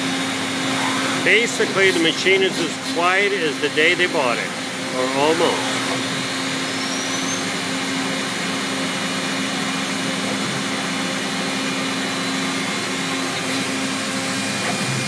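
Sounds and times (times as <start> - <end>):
machining center humming and hissing: 0.0 - 15.0.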